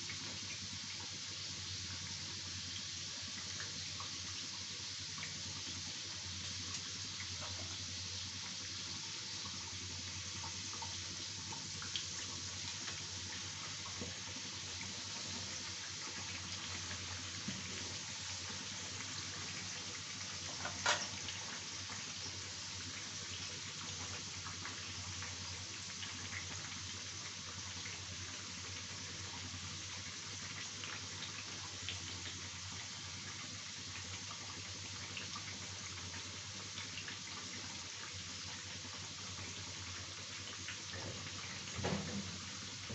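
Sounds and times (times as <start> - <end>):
hot oil sizzling: 0.0 - 42.9.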